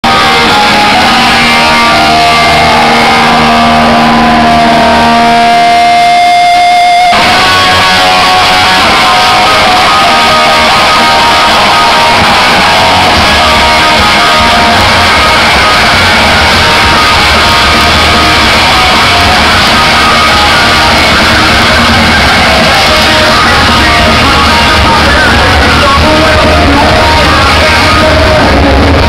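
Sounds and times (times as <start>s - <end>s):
electric guitar held high note: 0.0s - 29.0s
punk rock band playing live: 0.0s - 29.0s.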